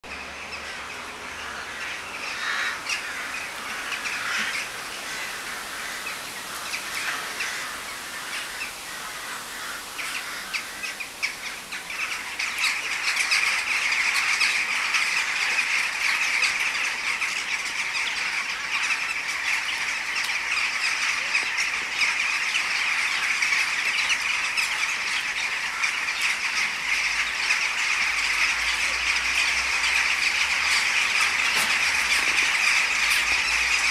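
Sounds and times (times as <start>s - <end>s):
jackdaws calling: 0.0s - 33.9s.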